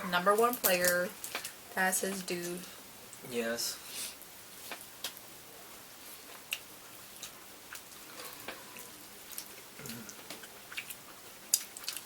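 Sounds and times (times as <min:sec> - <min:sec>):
people eating and chewing: 0:00.0 - 0:01.6, 0:03.8 - 0:12.0.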